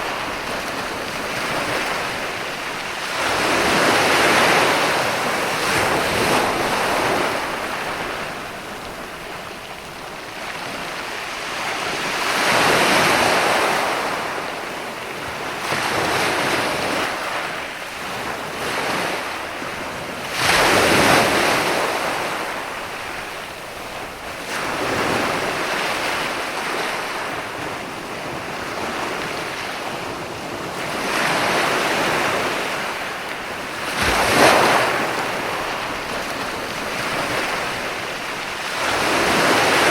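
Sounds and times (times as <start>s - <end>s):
ocean waves washing ashore: 0.0s - 39.9s
wind on microphone: 0.0s - 39.9s.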